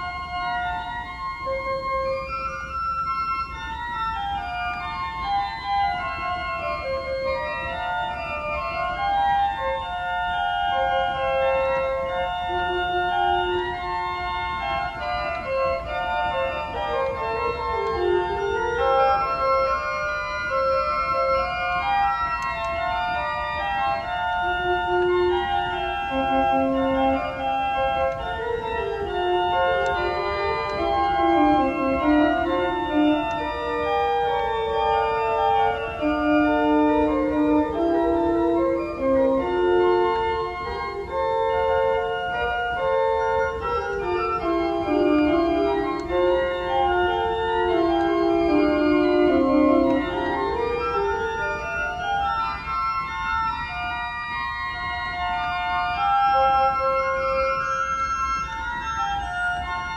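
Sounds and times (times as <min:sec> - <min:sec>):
organ music: 0:00.0 - 0:59.9.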